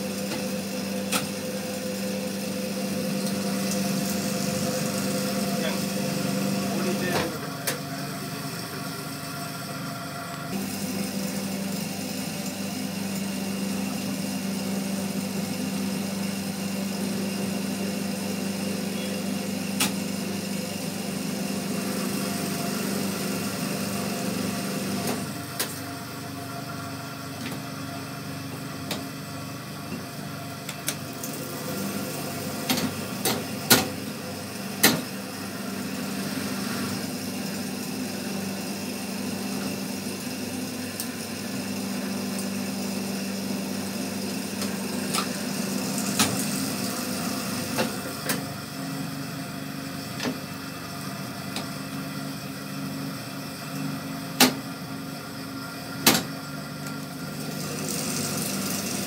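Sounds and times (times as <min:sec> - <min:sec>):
winding machine motor hum: 0:00.0 - 0:54.2.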